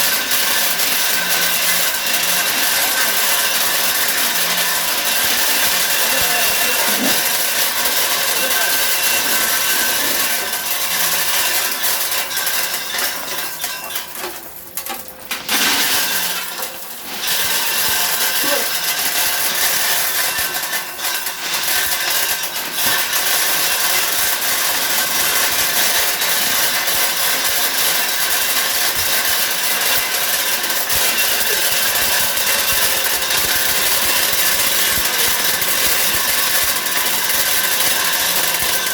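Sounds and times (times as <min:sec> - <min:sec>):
nut-cracking machine rattling: 0:00.0 - 0:38.9.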